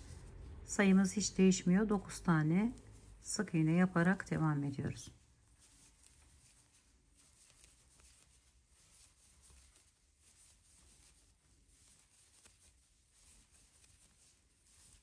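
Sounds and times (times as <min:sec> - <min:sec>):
faint soft handling noise: 0:00.0 - 0:15.0.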